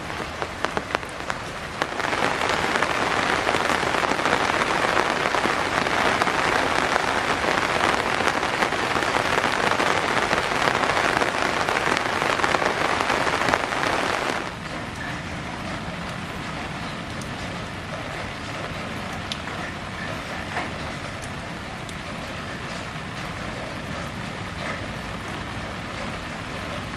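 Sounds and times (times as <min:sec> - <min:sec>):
heavy rain falling: 0:00.0 - 0:26.9.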